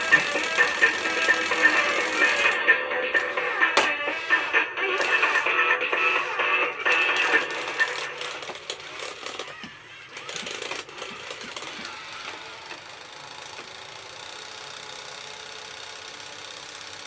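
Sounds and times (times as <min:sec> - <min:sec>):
toy robot motors whirring: 0:00.0 - 0:17.0.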